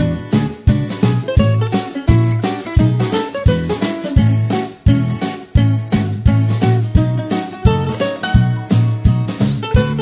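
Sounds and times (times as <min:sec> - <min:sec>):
background music with plucked notes: 0:00.0 - 0:10.0.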